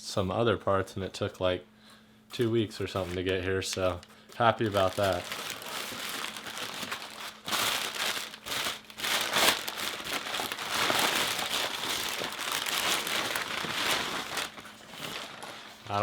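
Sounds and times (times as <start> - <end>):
packing wrap crinkling: 2.8 - 16.0.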